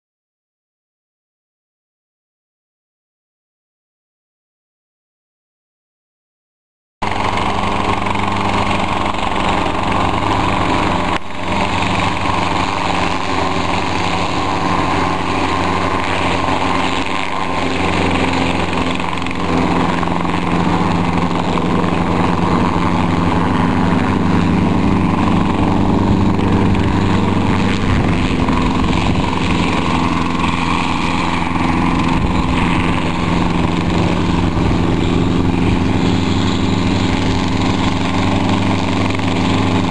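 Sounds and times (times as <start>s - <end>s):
helicopter engine and rotor: 7.0s - 39.9s.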